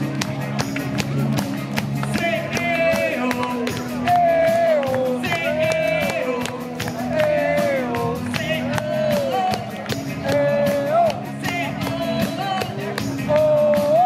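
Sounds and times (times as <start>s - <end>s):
bass guitar: 0.0s - 14.0s
drum kit beat: 0.0s - 14.0s
electric guitar: 0.0s - 14.0s
person singing: 2.0s - 14.0s.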